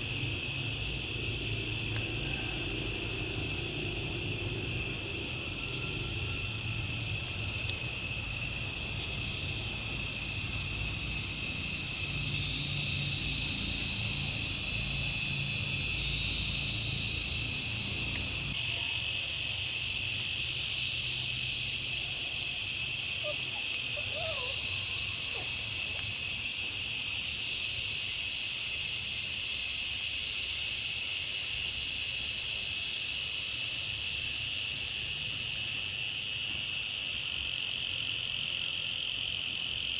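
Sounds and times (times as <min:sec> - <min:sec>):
insects calling: 0:00.0 - 0:39.9.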